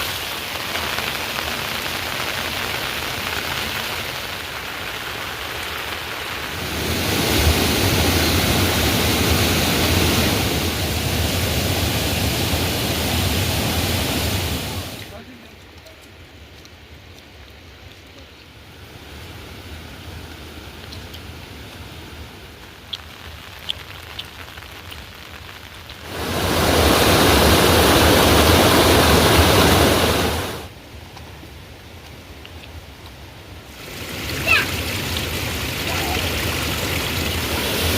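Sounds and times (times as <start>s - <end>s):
heavy rain falling: 0.0s - 30.8s, 31.5s - 37.9s.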